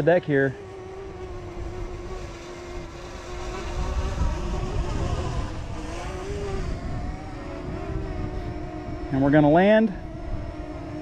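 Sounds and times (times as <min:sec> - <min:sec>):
drone propellers whining: 0:00.0 - 0:11.0
wind rumbling on microphone: 0:00.0 - 0:11.0.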